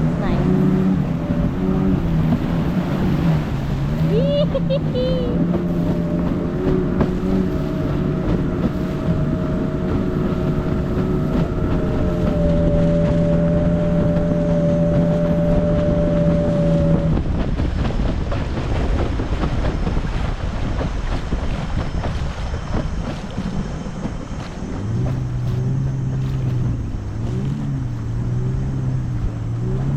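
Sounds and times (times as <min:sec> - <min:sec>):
outboard motor running: 0:00.0 - 0:29.9
water noise: 0:00.0 - 0:29.9
wind on microphone: 0:00.0 - 0:29.9.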